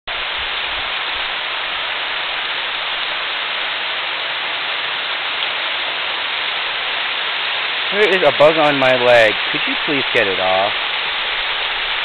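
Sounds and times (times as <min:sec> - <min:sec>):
creek water rushing over rock: 0:00.1 - 0:12.0.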